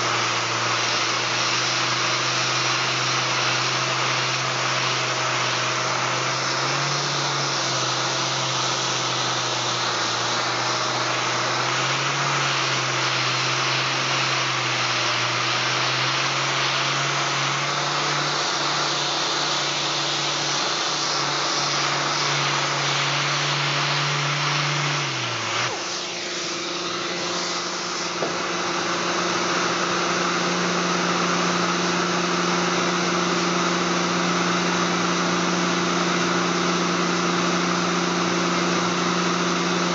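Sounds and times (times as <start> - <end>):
air sander running: 0.0 - 39.9
steady machine drone: 0.0 - 39.9.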